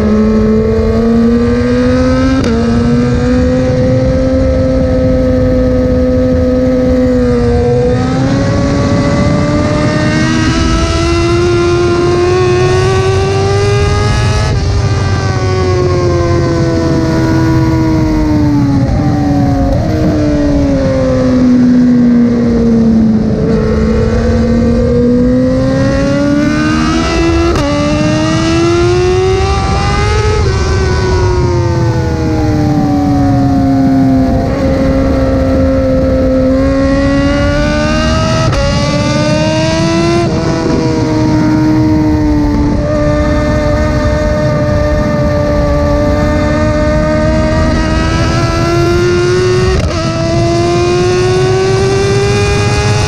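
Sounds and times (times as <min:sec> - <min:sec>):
motorcycle engine accelerating: 0:00.0 - 0:53.0
wind rush: 0:00.0 - 0:53.0.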